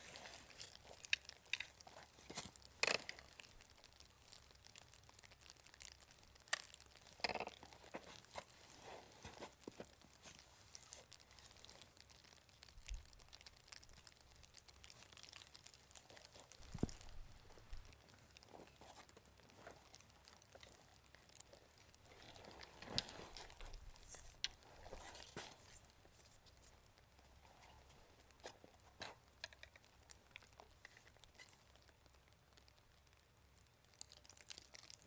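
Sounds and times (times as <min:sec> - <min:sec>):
crinkling and crunching: 0:00.0 - 0:35.0.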